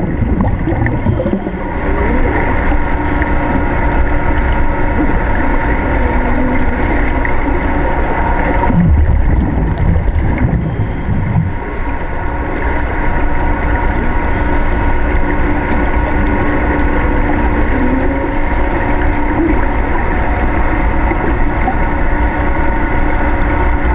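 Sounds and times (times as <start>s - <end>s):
low uneven rumbling: 0.0s - 23.8s
machine hum and rumble: 0.0s - 23.9s.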